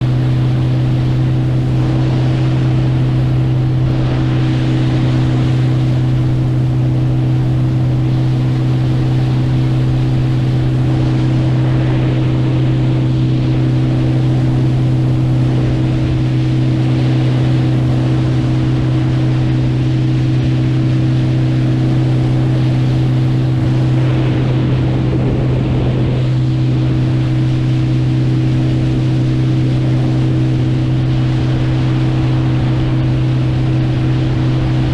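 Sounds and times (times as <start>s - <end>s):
motorboat engine running: 0.0s - 34.9s
water rushing past hull: 0.0s - 34.9s
wind on microphone: 0.0s - 34.9s.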